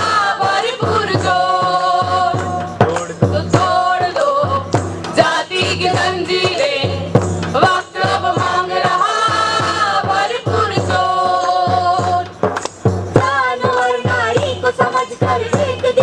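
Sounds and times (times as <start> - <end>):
group singing: 0.0 - 12.5, 13.1 - 16.0
frame drum beating: 0.0 - 16.0.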